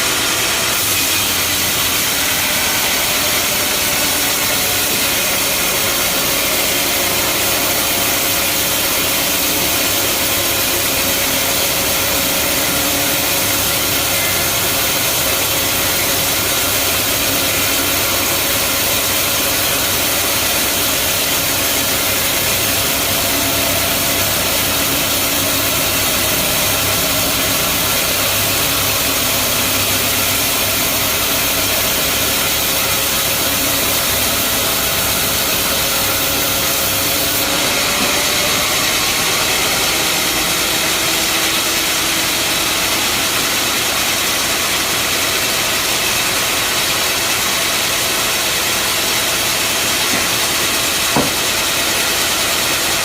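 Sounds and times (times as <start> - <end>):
bandsaw sawmill running: 0.0 - 53.0.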